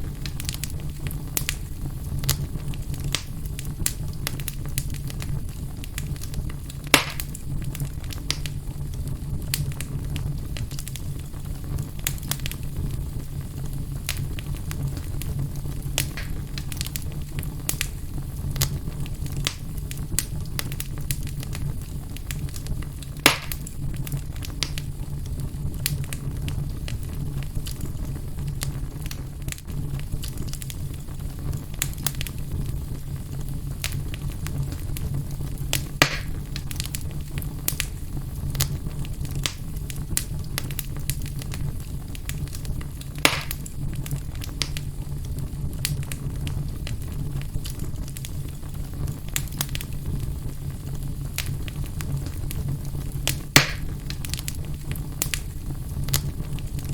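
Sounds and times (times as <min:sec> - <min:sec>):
sharp fire pops: 0:00.0 - 0:56.9
wood fire crackling: 0:00.0 - 0:56.9.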